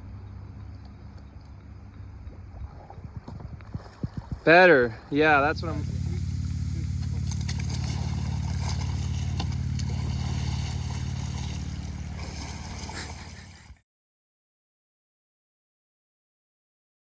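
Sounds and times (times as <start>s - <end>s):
engine humming steadily: 0.0s - 13.8s.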